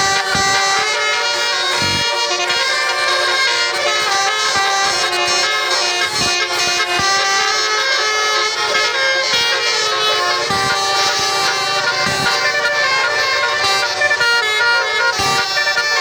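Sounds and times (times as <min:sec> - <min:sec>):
air horns playing melody: 0:00.0 - 0:16.0.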